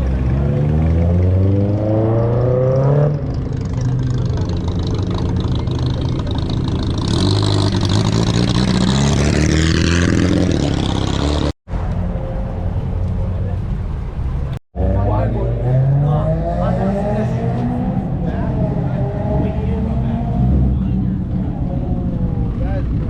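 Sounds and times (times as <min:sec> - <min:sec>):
car engine revving: 0:00.0 - 0:11.5, 0:14.8 - 0:23.0.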